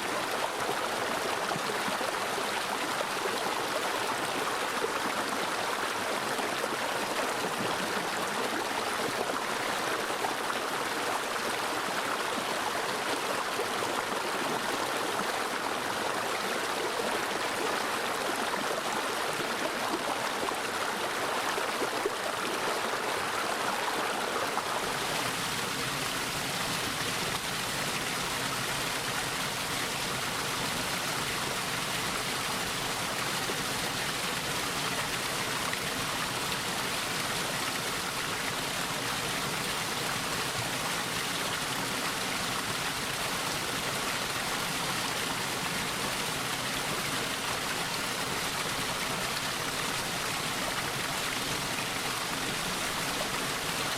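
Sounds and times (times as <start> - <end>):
stream running over rocks: 0.0 - 53.9.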